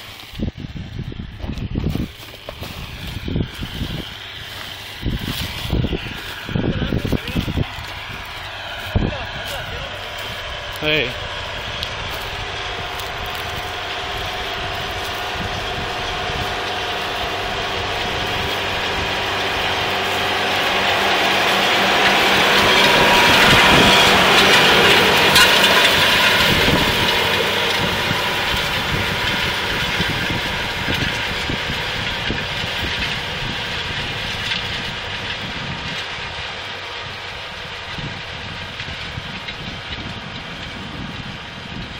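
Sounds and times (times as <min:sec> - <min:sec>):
harrow discs cutting through soil: 0:00.0 - 0:41.9
tractor engine under load: 0:00.0 - 0:41.9.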